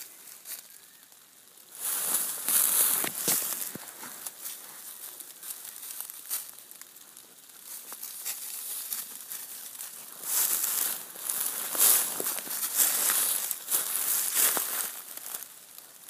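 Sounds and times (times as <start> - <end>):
dry leaves crackling underfoot: 0.0 - 16.0.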